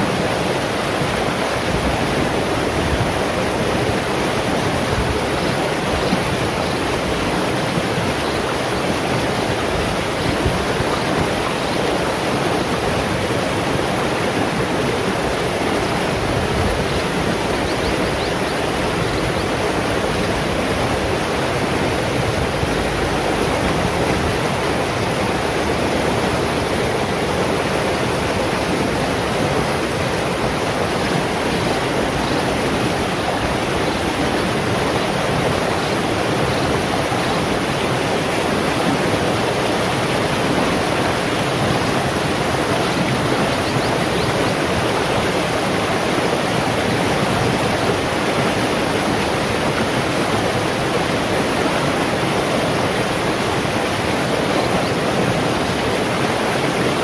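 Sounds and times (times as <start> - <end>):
stream rushing over stones: 0.0 - 57.0.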